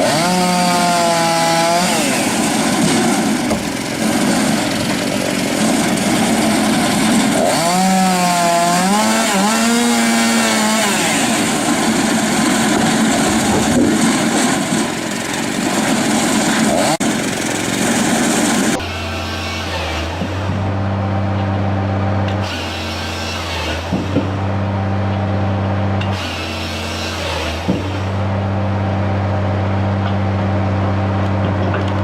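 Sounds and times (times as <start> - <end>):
chainsaw engine at high revs: 0.0 - 29.2.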